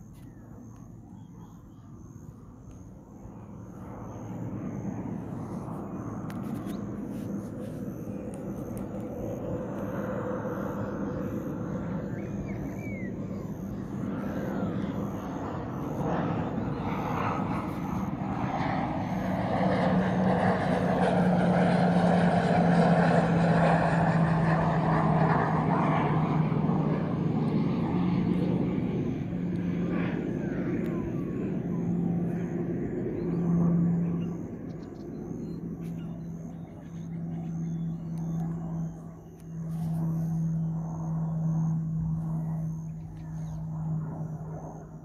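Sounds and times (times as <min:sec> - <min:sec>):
propeller plane flying overhead: 0:00.0 - 0:45.0.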